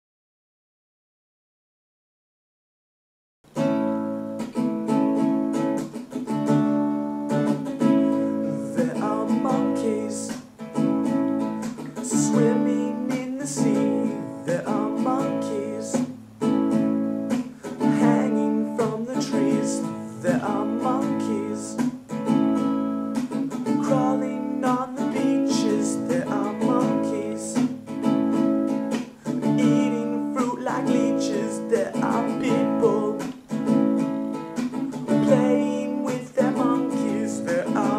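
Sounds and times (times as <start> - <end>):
strummed acoustic guitar: 3.5 - 37.9.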